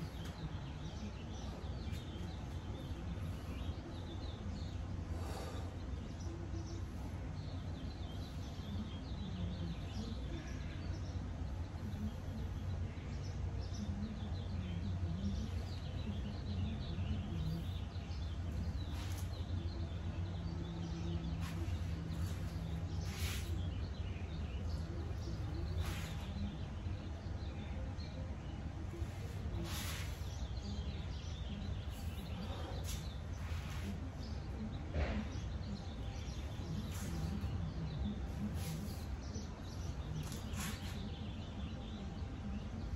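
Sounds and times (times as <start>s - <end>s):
faint bird chirps: 0.0s - 42.9s.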